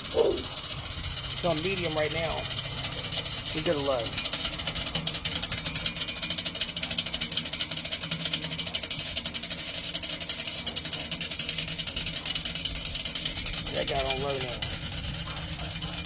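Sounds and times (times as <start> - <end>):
fan motor humming: 0.0 - 16.0
spinning rim clattering: 0.0 - 16.0.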